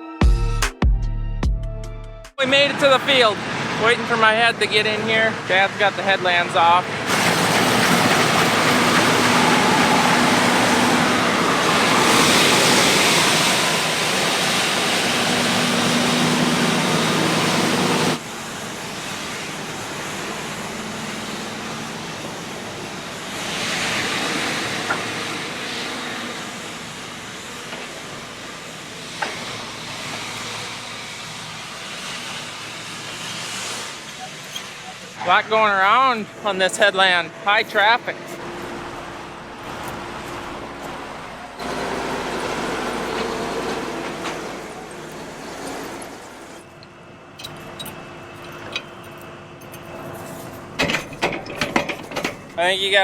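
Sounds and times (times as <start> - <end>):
diesel engine running: 2.2 - 53.0.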